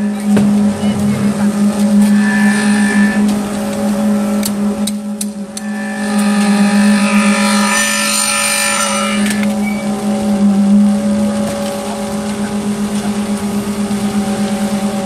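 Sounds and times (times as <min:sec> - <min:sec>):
concrete pump drone: 0:00.0 - 0:15.0
high whine: 0:00.0 - 0:15.0.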